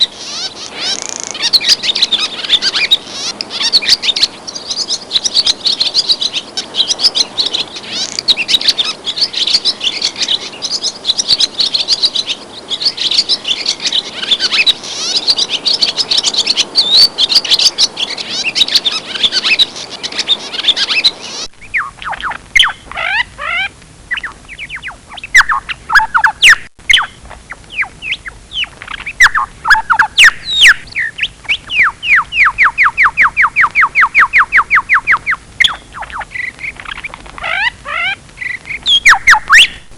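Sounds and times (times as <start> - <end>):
bird whistling song and trill: 0.0 - 39.9
chorus of small birds chirping: 0.0 - 39.9.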